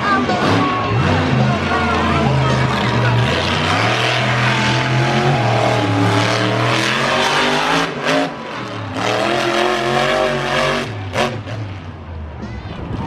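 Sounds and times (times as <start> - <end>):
monster truck engine revving: 0.0 - 12.4.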